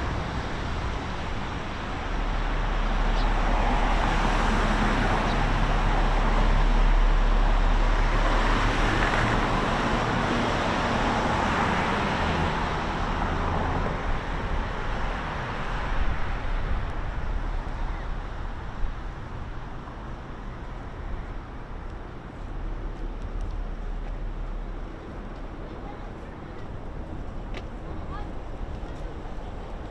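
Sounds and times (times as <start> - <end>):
road traffic: 0.0 - 29.9.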